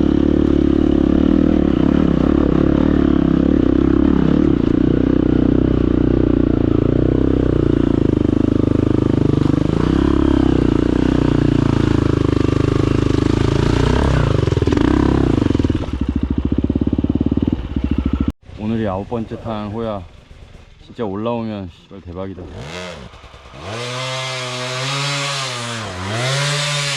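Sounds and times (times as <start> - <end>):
dirt bike engine running: 0.0 - 21.6, 22.3 - 26.9.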